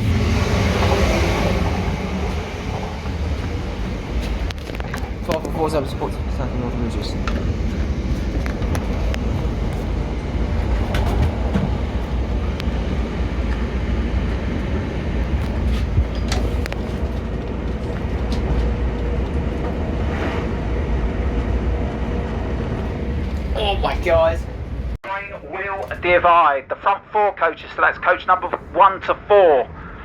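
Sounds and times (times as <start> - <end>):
train rumble inside carriage: 0.0 - 26.6.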